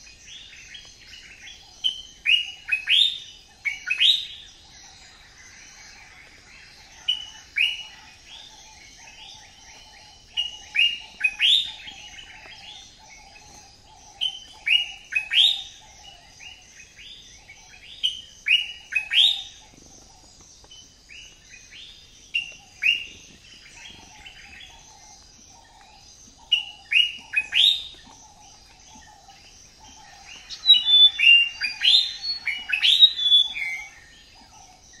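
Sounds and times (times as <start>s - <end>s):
birds chirping whistled notes: 0.0s - 35.0s
faint bird chatter: 0.0s - 35.0s.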